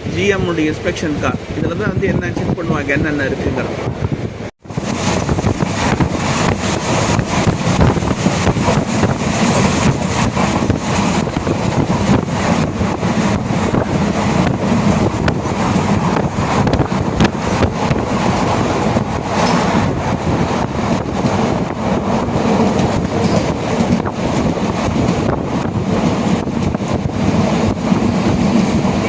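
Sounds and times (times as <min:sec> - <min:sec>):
wind buffeting microphone: 0:00.0 - 0:29.0
train wheels clattering on rails: 0:04.7 - 0:29.0.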